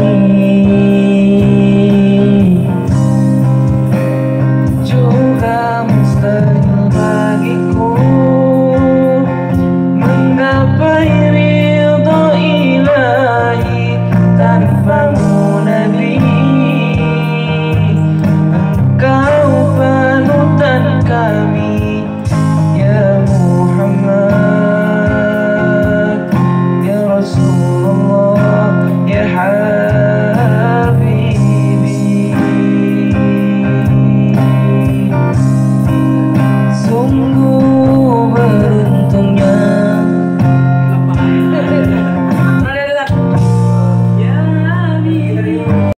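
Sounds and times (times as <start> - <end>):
guitar playing chords: 0.0 - 45.9
men singing into microphones: 0.0 - 45.9.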